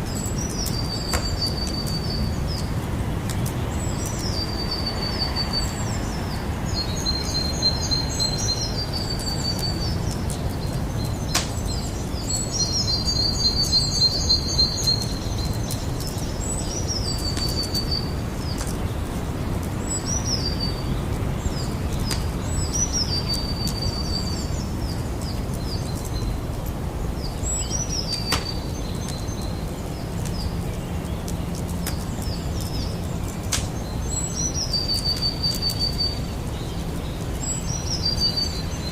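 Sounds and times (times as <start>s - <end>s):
campfire crackling: 0.0s - 4.8s, 5.7s - 38.9s.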